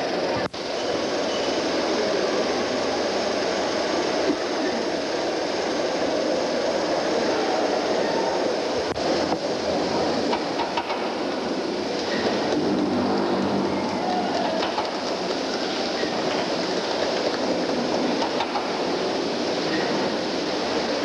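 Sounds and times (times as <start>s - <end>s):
steam pumping engine running: 0.0s - 21.0s.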